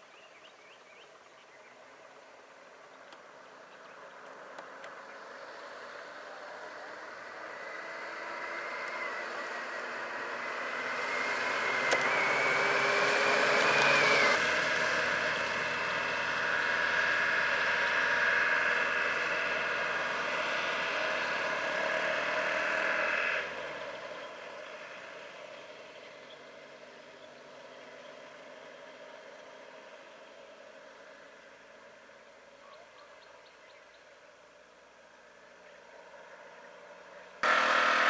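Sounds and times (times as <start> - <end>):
vehicle engines idling: 0.0 - 38.0.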